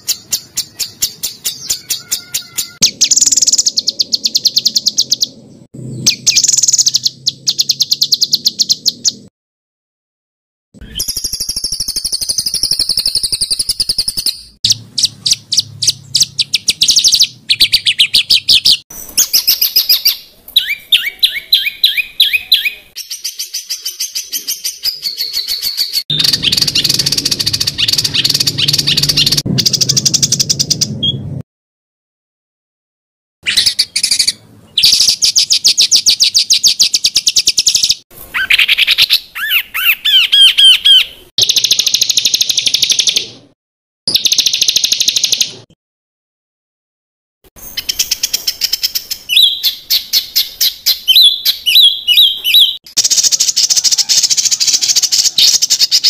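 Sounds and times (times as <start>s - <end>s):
songbird trills: 0.0s - 9.2s, 10.8s - 31.2s, 33.5s - 43.3s, 47.6s - 56.0s.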